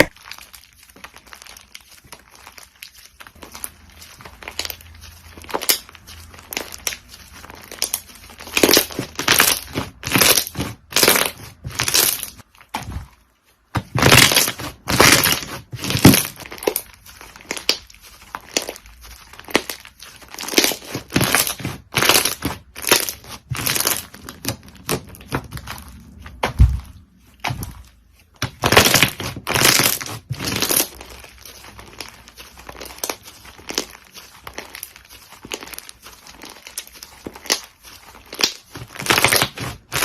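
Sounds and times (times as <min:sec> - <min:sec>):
slime crackling and popping: 0:00.0 - 0:40.0.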